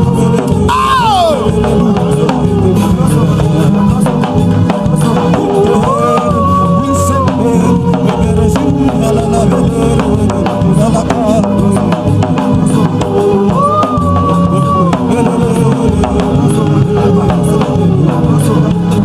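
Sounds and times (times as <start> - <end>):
drum kit beat: 0.0 - 19.0
live band music: 0.0 - 19.0.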